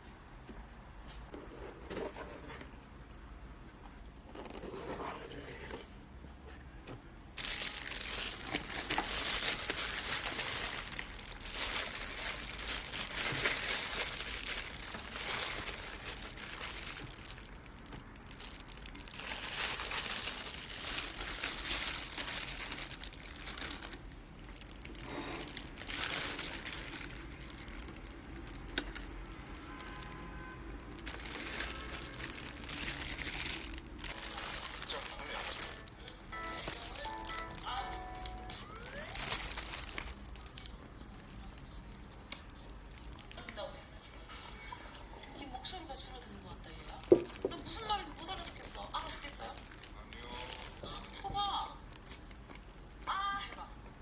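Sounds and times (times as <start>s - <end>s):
crinkling and rustling: 1.1s - 43.4s, 46.3s - 52.8s.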